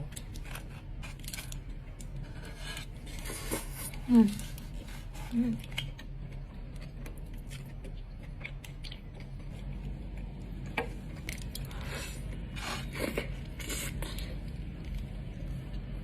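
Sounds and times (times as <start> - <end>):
biting and chewing food: 0.0 - 16.0.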